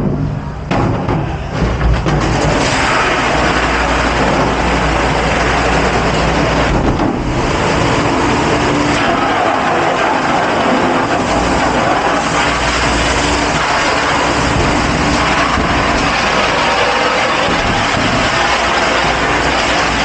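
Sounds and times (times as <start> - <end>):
dishwashing machinery roaring: 0.0 - 20.0.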